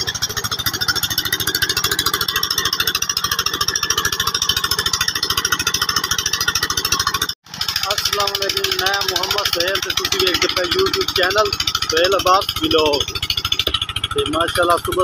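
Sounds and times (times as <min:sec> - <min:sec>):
pump engine thumping: 0:00.0 - 0:15.0.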